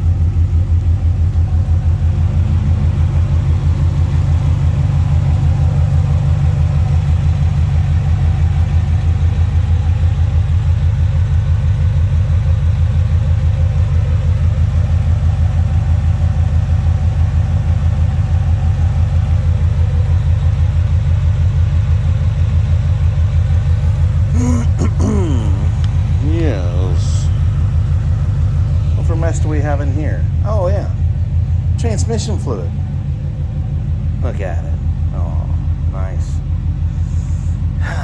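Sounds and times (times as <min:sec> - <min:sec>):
pickup engine idling: 0:00.0 - 0:38.0.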